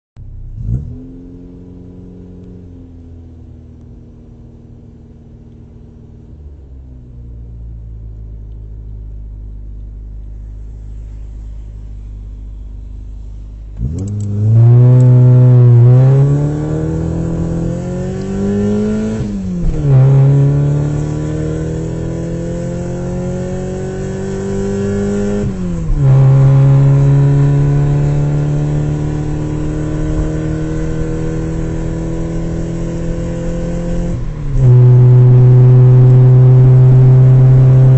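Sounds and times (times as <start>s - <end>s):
car engine accelerating: 0.2s - 37.9s.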